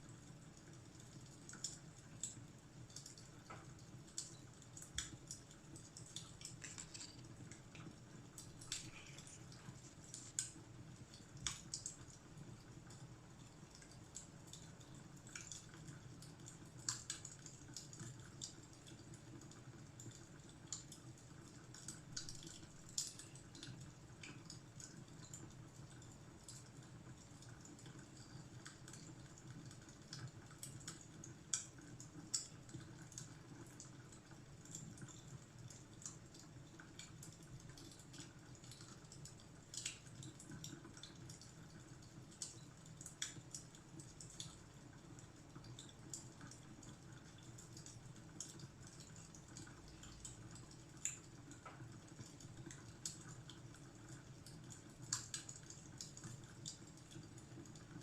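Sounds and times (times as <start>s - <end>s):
fire crackling faintly: 0.0s - 58.0s.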